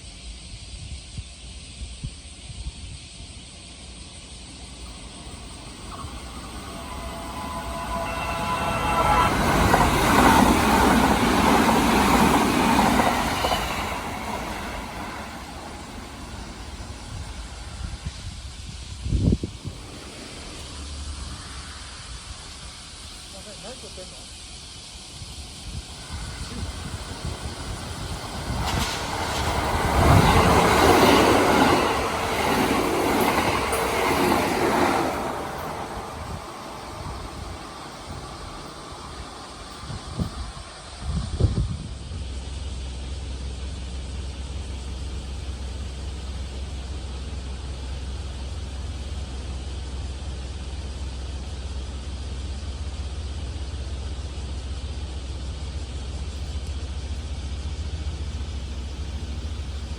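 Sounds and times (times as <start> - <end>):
train passing close by: 0.0 - 59.9.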